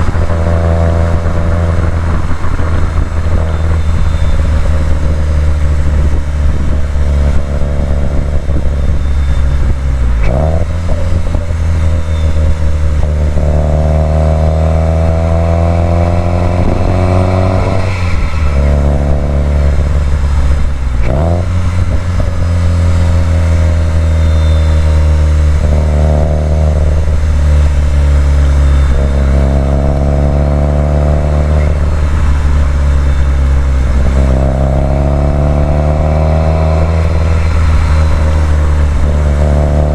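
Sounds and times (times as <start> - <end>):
car engine pulling: 0.0 - 39.9.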